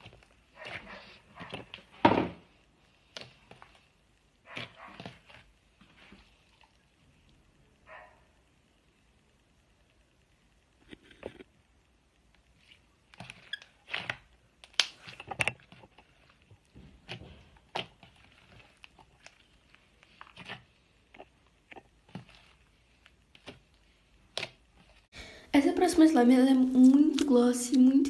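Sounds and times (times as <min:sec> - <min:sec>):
slime squelching: 0:00.0 - 0:07.5, 0:11.9 - 0:28.0.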